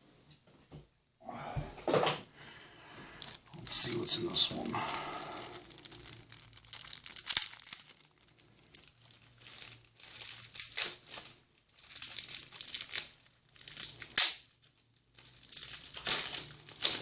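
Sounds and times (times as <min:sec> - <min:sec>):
foil wrapper crinkling and tearing: 0:03.2 - 0:17.0.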